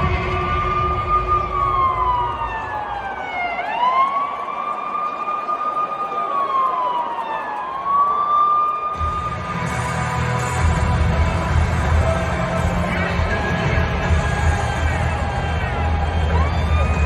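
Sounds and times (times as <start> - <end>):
siren wailing: 0.0 - 17.0.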